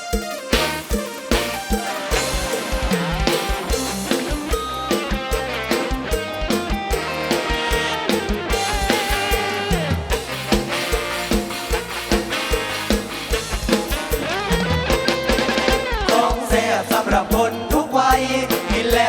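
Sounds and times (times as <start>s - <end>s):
instrumental band music: 0.0s - 19.0s.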